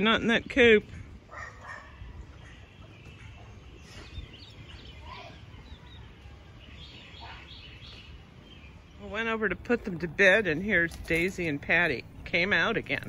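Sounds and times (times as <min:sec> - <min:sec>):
low steady background rumble: 0:00.0 - 0:13.0.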